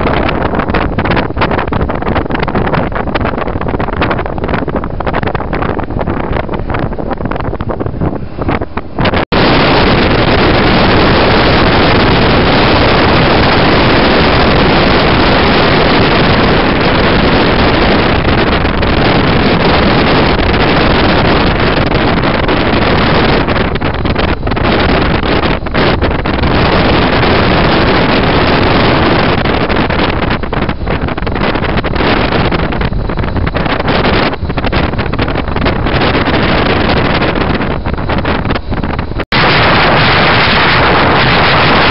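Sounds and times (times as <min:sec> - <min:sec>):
motorcycle engine and road noise: 0:00.0 - 0:41.9
wind rushing over microphone: 0:00.0 - 0:41.9.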